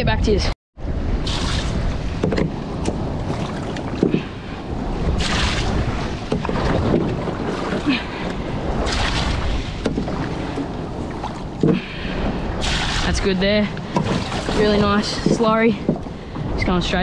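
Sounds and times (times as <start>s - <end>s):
water noise: 0.0s - 17.0s
wind buffeting microphone: 0.0s - 17.0s.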